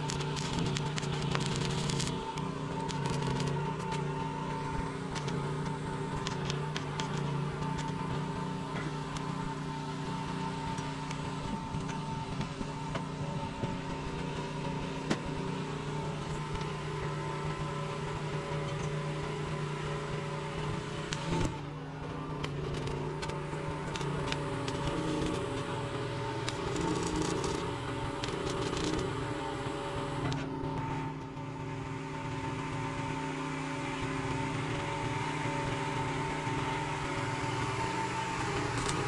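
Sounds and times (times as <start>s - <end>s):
welding arc crackling: 0.0s - 21.6s, 22.4s - 31.1s, 34.0s - 39.0s
welder electrical hum: 0.0s - 39.0s.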